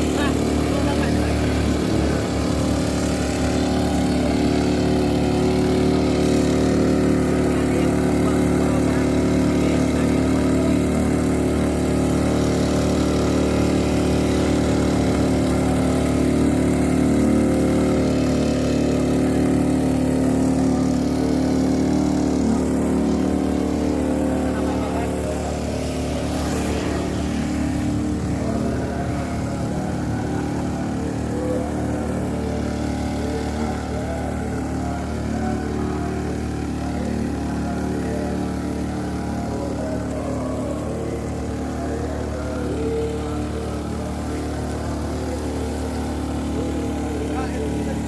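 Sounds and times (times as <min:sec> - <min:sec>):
small two-stroke engine running: 0:00.0 - 0:48.0.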